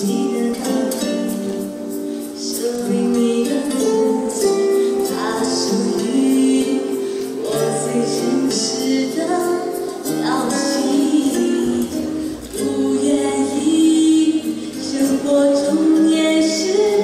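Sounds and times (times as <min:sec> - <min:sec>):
instrumental accompaniment: 0:00.0 - 0:17.0
woman singing pop ballad: 0:00.0 - 0:17.0.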